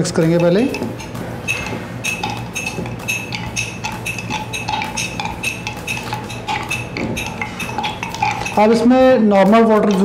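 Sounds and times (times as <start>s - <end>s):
stirrer clinking against a glass: 0.0s - 10.0s.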